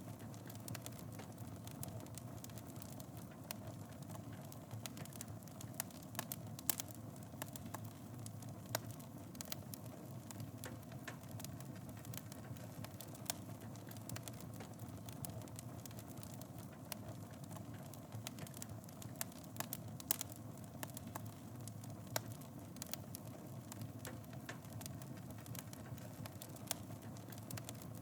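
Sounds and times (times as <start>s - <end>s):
fire crackling in fireplace: 0.0s - 28.0s.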